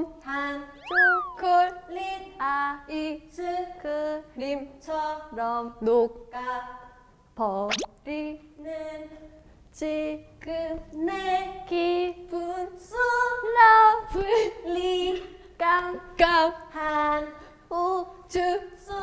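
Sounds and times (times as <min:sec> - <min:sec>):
women singing unaccompanied: 0:00.0 - 0:19.0.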